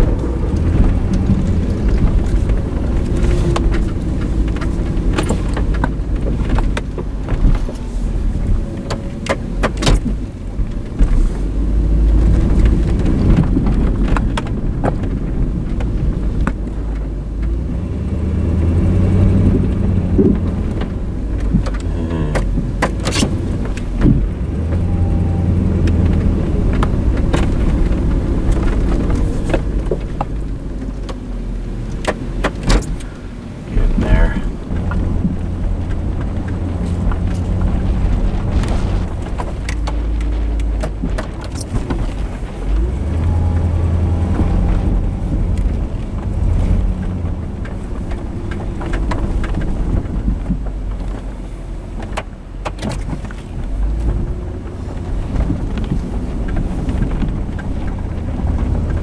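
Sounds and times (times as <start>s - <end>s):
sharp clicks and knocks: 0.0s - 11.3s, 19.4s - 24.9s, 25.7s - 51.3s, 52.0s - 59.0s
low rumble: 0.0s - 59.0s
truck engine under load: 0.0s - 59.0s.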